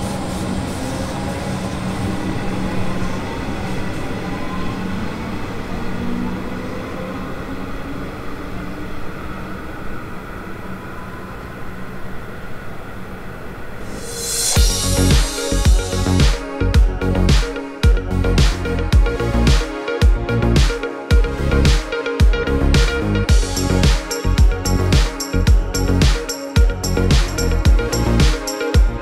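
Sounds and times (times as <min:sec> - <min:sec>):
electric train pulling away: 0:00.0 - 0:29.0.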